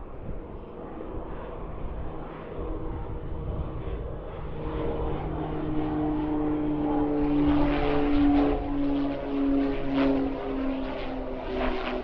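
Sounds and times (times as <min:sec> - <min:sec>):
propeller aircraft engine hum: 0:00.0 - 0:12.0.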